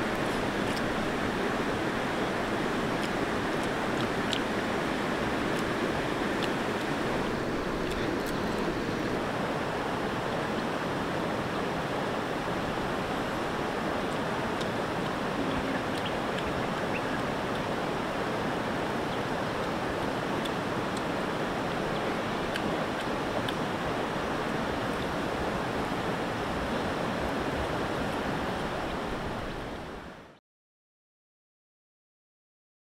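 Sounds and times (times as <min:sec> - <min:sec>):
river water rushing: 0:00.0 - 0:30.3.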